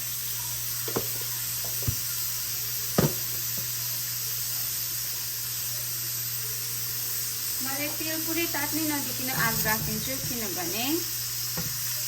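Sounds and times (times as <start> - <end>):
butter and oil sizzling in a pan: 0.0 - 12.0.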